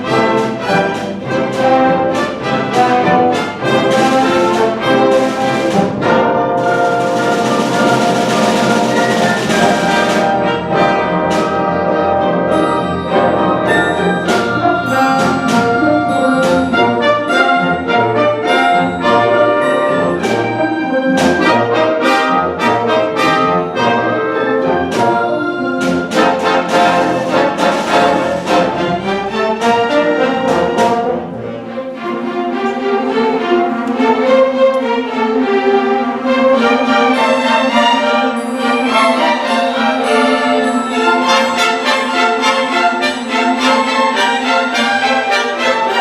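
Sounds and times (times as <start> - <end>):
brass section: 0.0 - 32.3, 35.4 - 46.0
orchestral percussion: 0.0 - 46.0
strings: 0.0 - 46.0.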